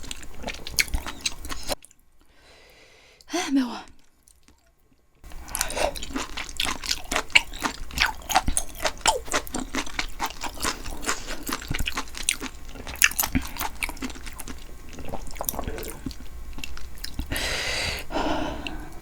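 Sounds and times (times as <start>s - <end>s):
close-miked wet chewing: 0.0s - 2.0s, 3.9s - 19.0s.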